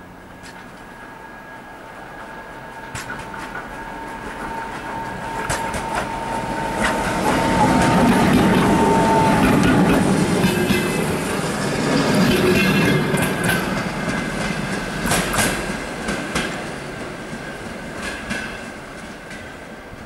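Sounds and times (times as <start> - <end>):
thin whine from train wheels: 0.0 - 20.0
train wheels clicking over rail joints: 2.2 - 20.0.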